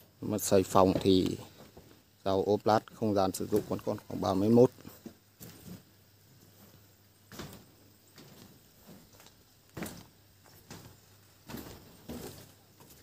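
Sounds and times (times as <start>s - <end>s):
footsteps on steel rebar mesh: 0.4s - 2.1s, 3.3s - 13.0s.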